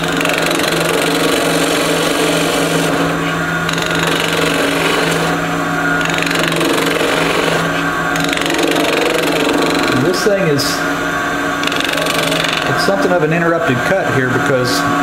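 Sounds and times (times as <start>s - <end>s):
gouge scraping spinning wood: 0.0s - 13.9s
lathe motor hum: 0.0s - 15.0s.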